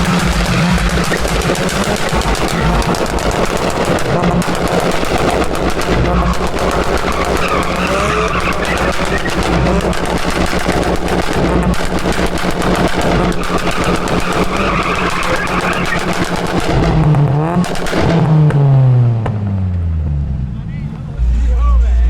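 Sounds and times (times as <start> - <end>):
tyres squealing: 0.0 - 18.7
car engine revving with crackle: 0.0 - 22.0.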